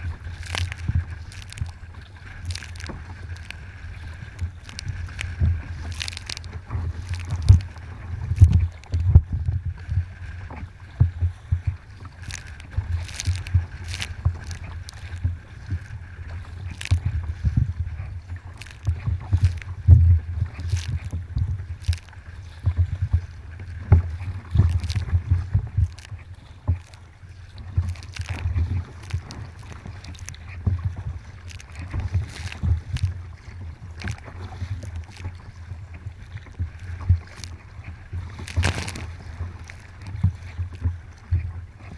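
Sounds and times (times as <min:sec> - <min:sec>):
constant low rumble: 0:00.0 - 0:41.9
paddle splashing in water: 0:00.0 - 0:41.9.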